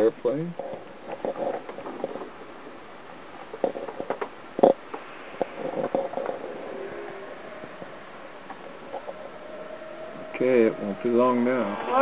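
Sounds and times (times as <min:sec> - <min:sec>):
handling noise rustling: 0:00.5 - 0:11.9.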